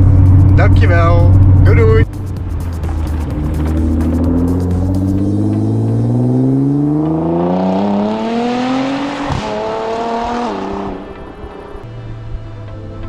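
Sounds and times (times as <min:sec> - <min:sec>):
car engine accelerating hard: 0:00.0 - 0:12.3.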